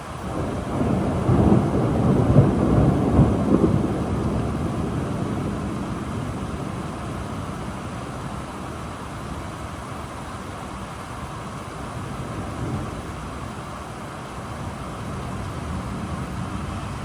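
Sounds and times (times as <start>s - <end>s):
steady rain: 0.0s - 17.0s
thunder rolling: 0.1s - 9.2s, 12.0s - 17.0s.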